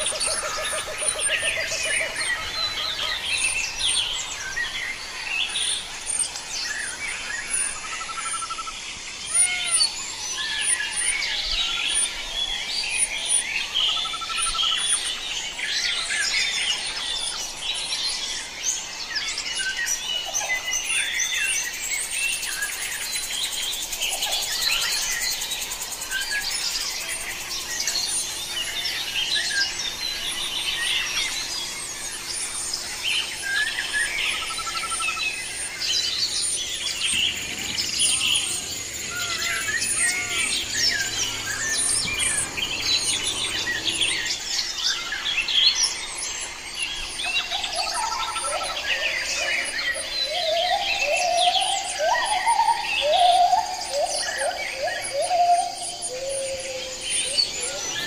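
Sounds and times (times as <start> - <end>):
birds chirping in chorus: 0.0 - 58.0
lower faster bird chirps: 0.0 - 58.0.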